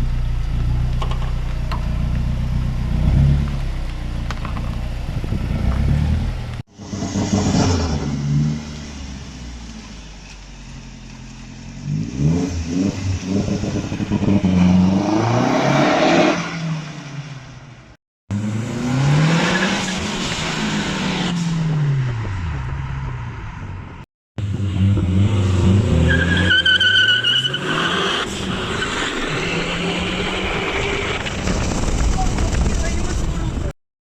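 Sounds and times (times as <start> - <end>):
car engine revving: 0.7 - 9.8, 11.1 - 23.8, 24.4 - 32.2.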